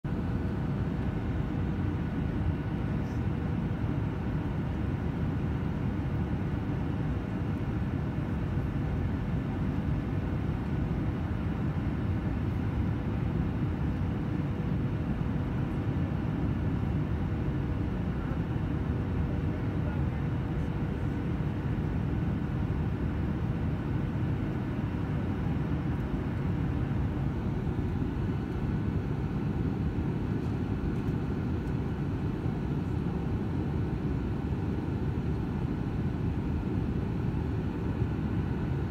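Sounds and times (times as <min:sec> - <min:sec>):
jet engine and airflow rumble: 0:00.0 - 0:38.9.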